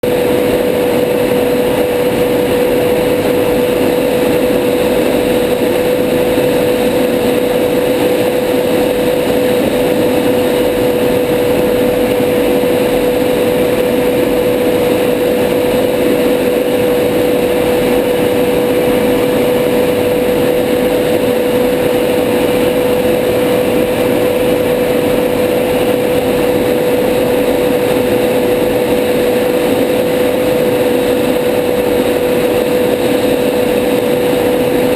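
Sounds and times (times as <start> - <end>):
constant high whine: 0.0 - 34.9
jet cockpit rushing noise: 0.0 - 34.9.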